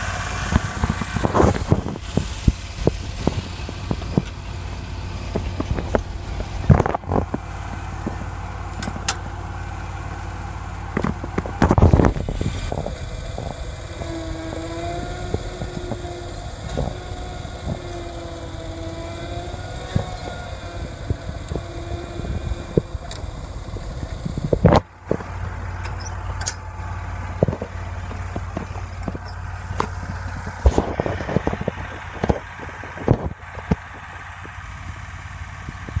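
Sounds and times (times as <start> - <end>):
mower engine running: 0.0 - 36.0.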